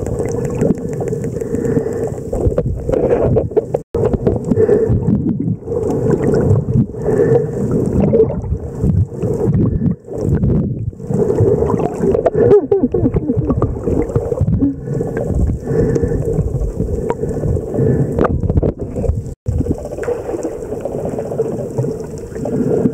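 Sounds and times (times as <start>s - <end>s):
underwater rushing and gurgling: 0.0s - 22.9s.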